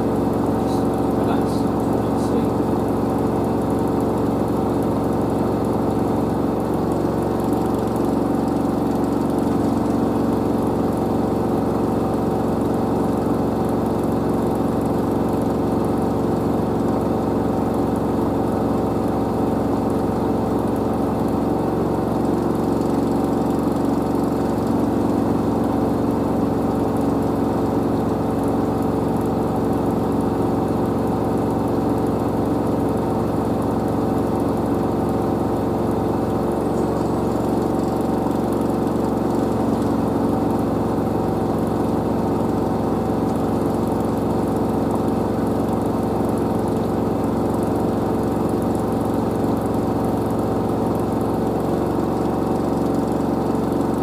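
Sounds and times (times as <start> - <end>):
washer dryer spinning hum: 0.0 - 54.0.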